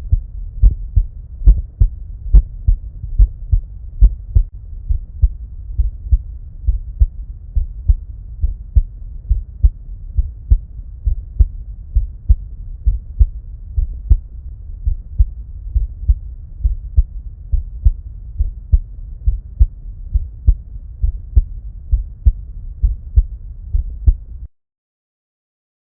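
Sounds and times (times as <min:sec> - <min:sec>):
heartbeat through stethoscope: 0:00.0 - 0:24.3
low hum: 0:00.0 - 0:24.5.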